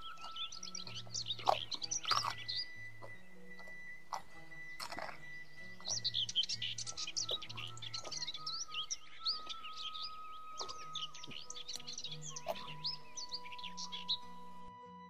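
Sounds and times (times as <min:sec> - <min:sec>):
small birds chirping: 0:00.0 - 0:14.7
soft music with low bass: 0:00.0 - 0:15.0.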